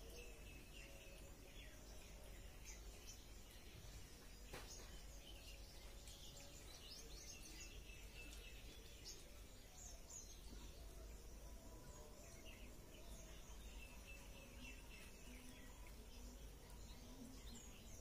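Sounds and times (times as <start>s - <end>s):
low steady background hum: 0.0s - 18.0s.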